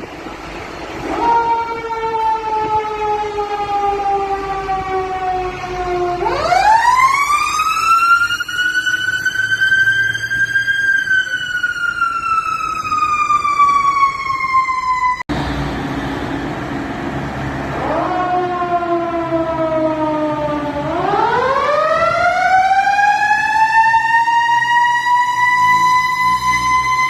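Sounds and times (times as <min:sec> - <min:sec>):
engine rumble: 0:00.0 - 0:27.0
fire truck sirens wailing: 0:00.0 - 0:27.0.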